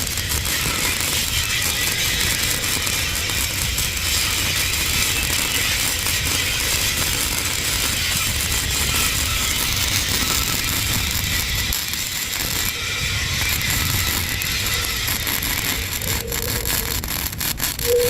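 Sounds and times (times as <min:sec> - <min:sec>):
welding arc crackling: 0:00.0 - 0:18.0.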